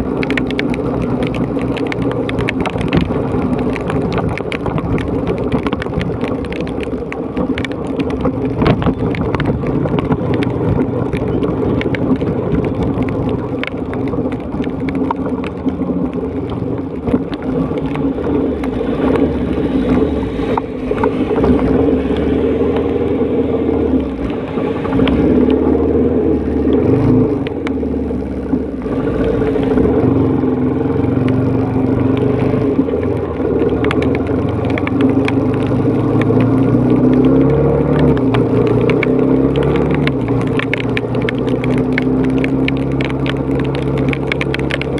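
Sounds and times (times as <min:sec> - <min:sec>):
rain hissing: 0:00.0 - 0:44.9
raindrops ticking: 0:00.0 - 0:44.9
tyres on wet road: 0:00.0 - 0:44.9.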